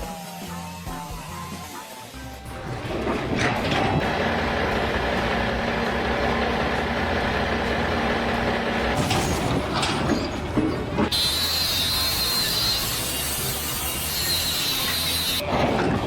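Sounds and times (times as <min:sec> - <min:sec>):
heavy engine rumbling: 0:02.3 - 0:16.0.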